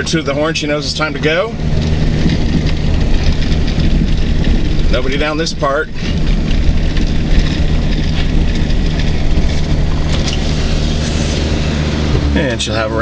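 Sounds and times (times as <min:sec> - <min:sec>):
truck engine running from cab: 0:00.0 - 0:13.0.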